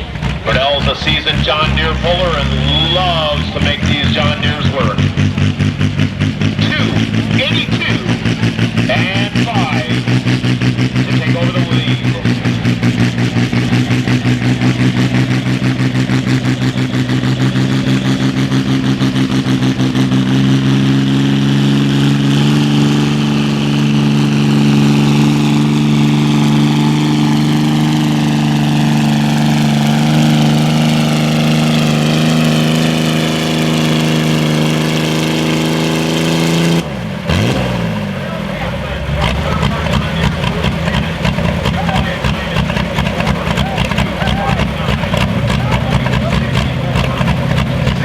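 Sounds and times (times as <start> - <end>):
tractor engine under full load: 0.0 - 48.0.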